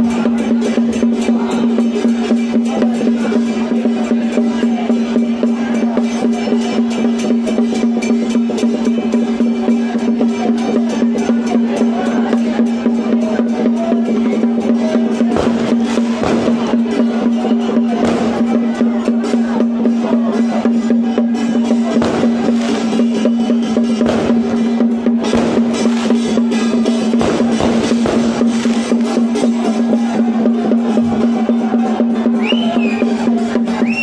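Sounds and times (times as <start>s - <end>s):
fast drum and percussion: 0.0s - 34.0s.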